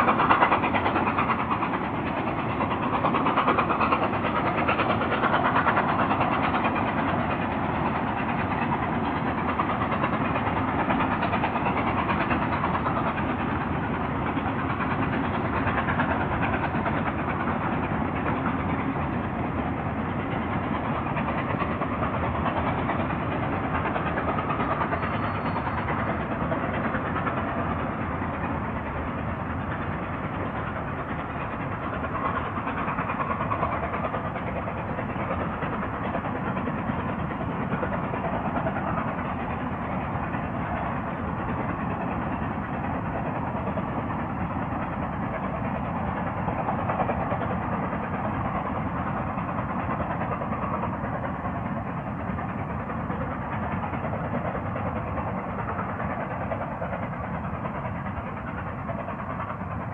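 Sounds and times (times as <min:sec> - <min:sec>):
train running: 0:00.0 - 0:59.9.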